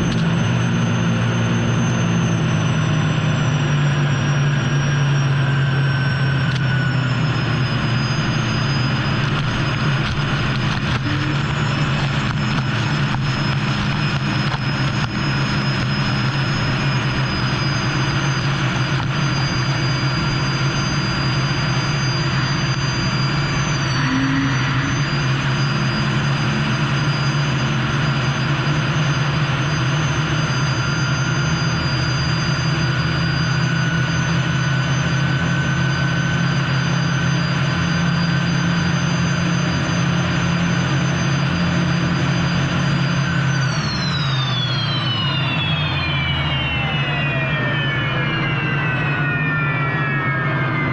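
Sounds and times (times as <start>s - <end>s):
turbine engine whine: 0.0s - 50.9s
continuous rushing noise: 6.2s - 50.9s.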